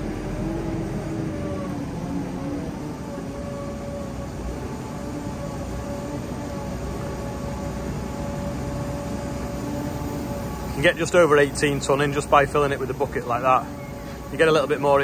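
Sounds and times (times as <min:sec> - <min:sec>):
diesel engine running with whine: 0:00.0 - 0:15.0.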